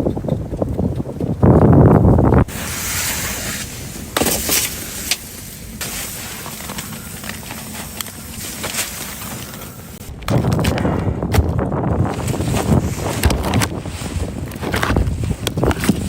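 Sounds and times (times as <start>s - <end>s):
clicks and rustles: 0.0s - 16.0s
wind buffeting microphone: 0.0s - 16.0s.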